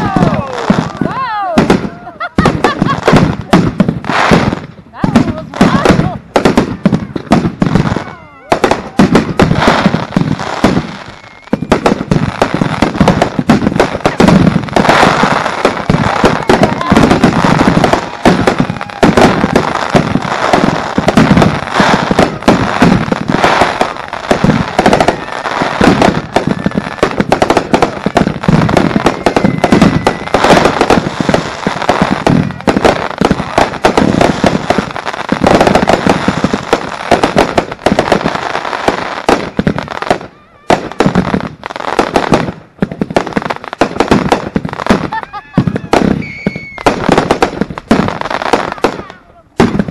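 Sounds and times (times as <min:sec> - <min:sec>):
fireworks barrage of bangs: 0:00.0 - 0:49.9.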